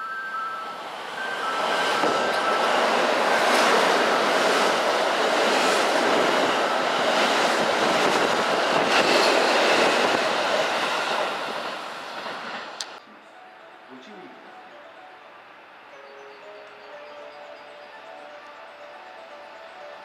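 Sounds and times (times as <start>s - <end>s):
electric train rushing past: 0.0s - 20.0s.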